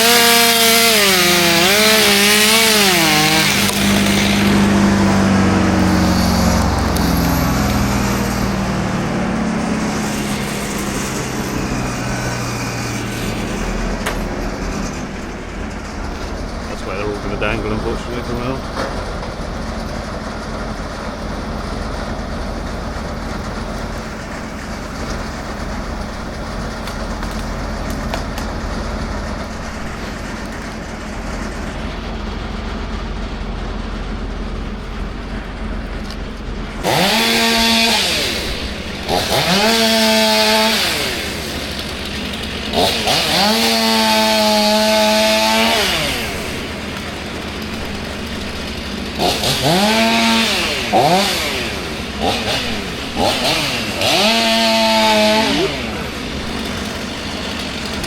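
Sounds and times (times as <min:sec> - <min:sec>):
chainsaw revving: 0:00.0 - 0:58.0
engine hum: 0:00.0 - 0:58.0.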